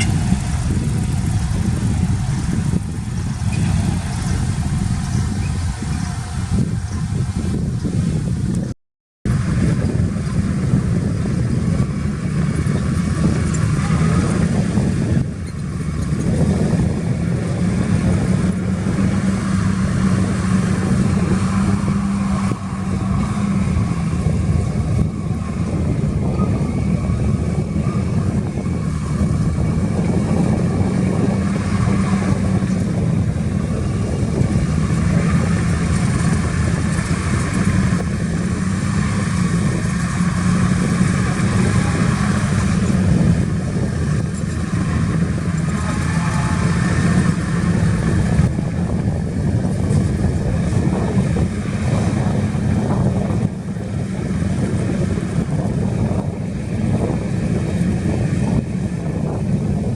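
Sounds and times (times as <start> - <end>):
diesel engine running: 0.0 - 8.7, 9.3 - 59.9.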